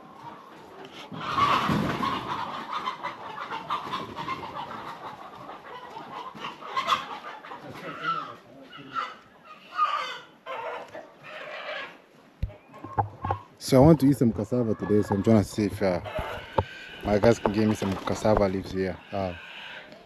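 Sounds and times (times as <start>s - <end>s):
chickens clucking and calling: 0.0s - 20.0s.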